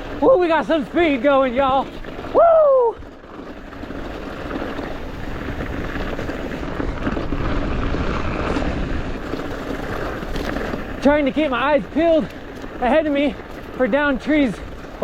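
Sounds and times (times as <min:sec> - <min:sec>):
bike tyres rolling over dirt: 0:00.0 - 0:15.0
wind rushing over microphone: 0:00.0 - 0:15.0.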